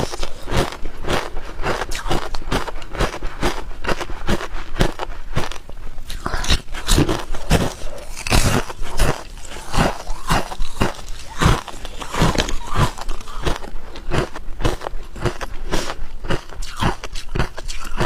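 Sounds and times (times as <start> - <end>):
ice crunching in chewing: 0.0 - 18.0.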